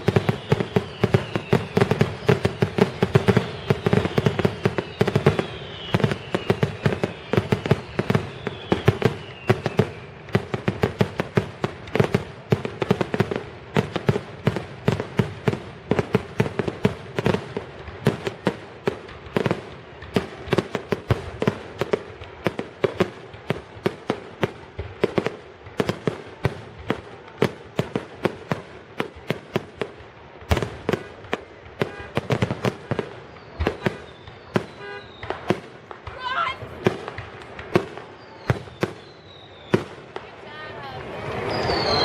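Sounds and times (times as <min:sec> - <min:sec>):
fireworks barrage: 0:00.0 - 0:42.0.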